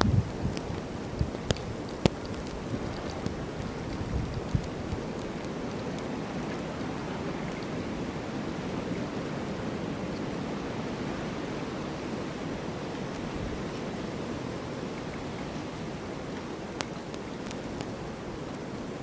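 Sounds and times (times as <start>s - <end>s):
rushing wind: 0.0s - 19.0s.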